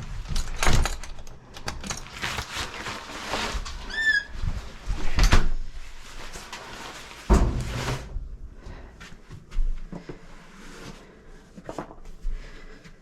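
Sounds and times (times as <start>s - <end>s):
rustling of objects handled: 0.0s - 13.0s.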